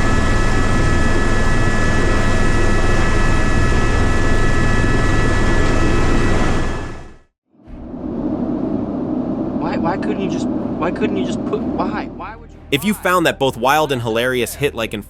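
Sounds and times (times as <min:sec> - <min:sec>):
helicopter rotor and engine: 0:00.0 - 0:13.3.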